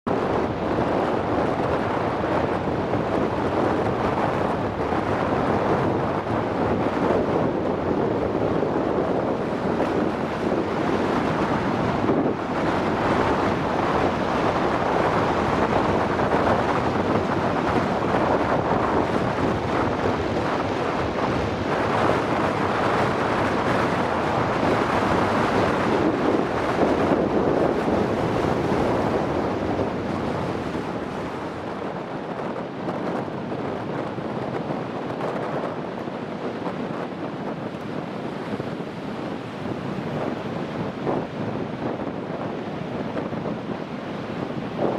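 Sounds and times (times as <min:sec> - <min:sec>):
wind buffeting microphone: 0:00.0 - 0:44.9
surf breaking on beach: 0:00.1 - 0:44.9.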